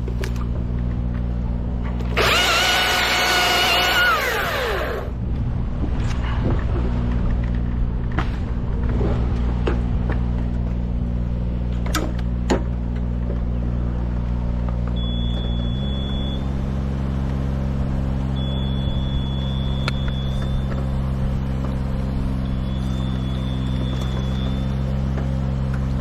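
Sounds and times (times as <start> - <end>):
engine running at low speed: 0.0 - 26.0.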